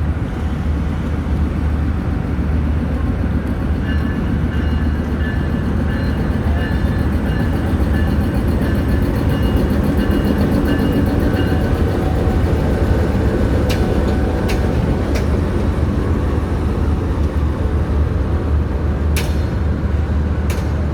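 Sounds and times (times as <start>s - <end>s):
locomotive engine rumbling: 0.0s - 20.9s.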